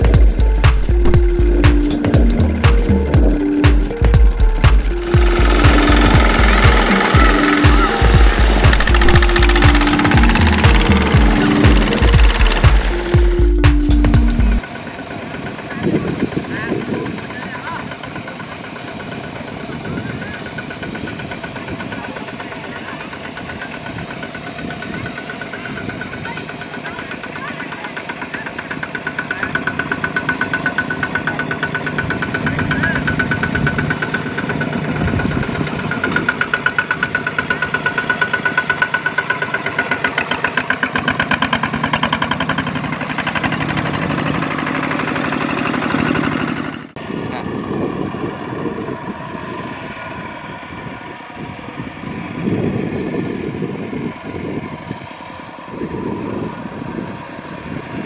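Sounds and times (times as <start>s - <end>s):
quieter walking tractor engine: 0.0s - 58.0s
walking tractor diesel engine: 0.0s - 58.0s.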